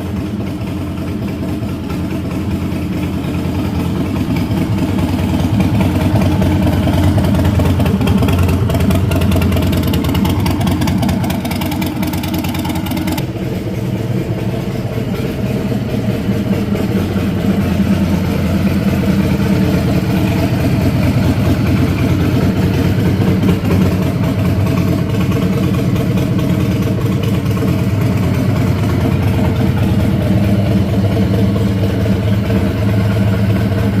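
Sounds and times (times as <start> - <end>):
motorcycle engine low exhaust note: 0.0 - 34.0.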